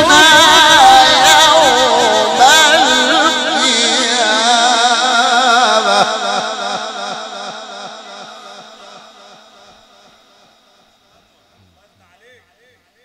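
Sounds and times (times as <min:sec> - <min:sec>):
man chanting through a microphone: 0:00.0 - 0:13.0
trailing echo: 0:00.0 - 0:13.0.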